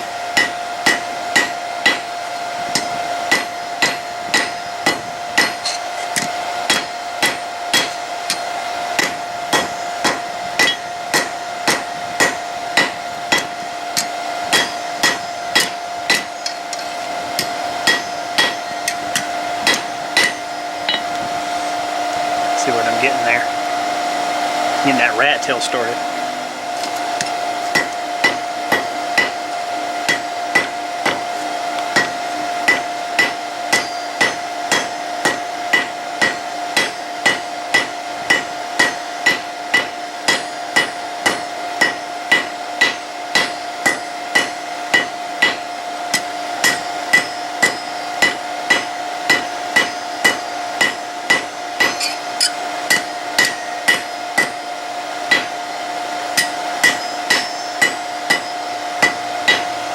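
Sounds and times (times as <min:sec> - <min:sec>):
steady hum: 0:00.0 - 0:59.9
hammer striking steel on anvil: 0:00.4 - 0:02.1, 0:02.7 - 0:21.2, 0:26.9 - 0:29.4, 0:30.0 - 0:31.3, 0:31.9 - 0:54.7, 0:55.3 - 0:55.6, 0:56.3 - 0:59.8.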